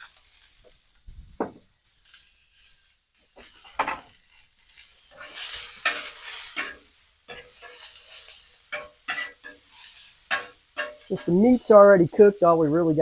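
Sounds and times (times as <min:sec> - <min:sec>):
onions sizzling on griddle: 0:00.0 - 0:13.0
utensil scraping griddle: 0:01.8 - 0:13.0.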